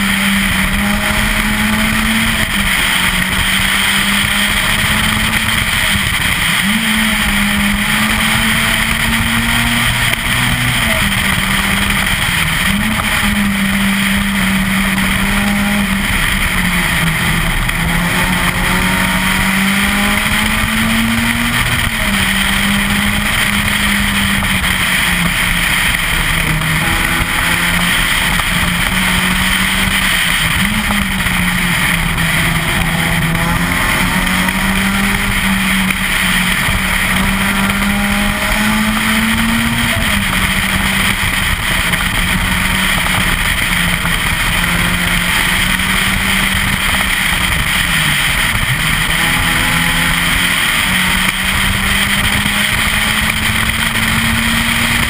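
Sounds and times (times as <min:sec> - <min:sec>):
car engine at high revs: 0:00.0 - 0:55.0
road and tyre noise: 0:00.0 - 0:55.0.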